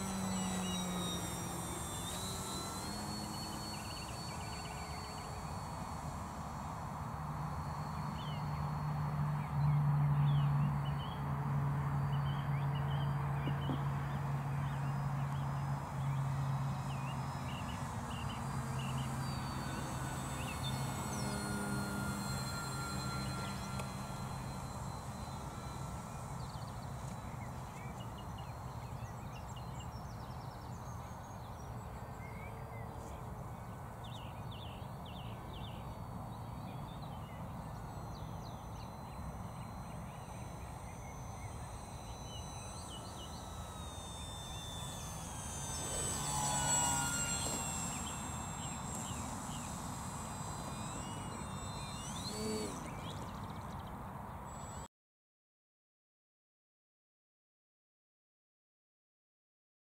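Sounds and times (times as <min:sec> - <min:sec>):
birds chirping: 0:00.0 - 0:54.8
electric model plane motor hum: 0:00.0 - 0:54.9.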